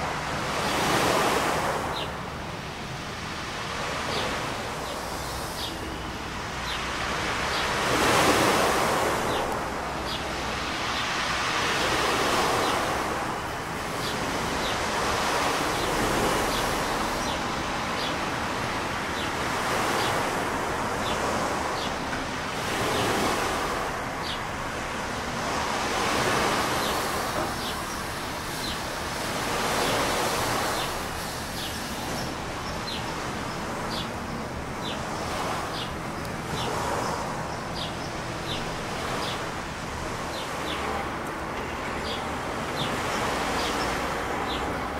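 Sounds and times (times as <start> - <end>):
sea waves washing ashore: 0.0 - 44.9.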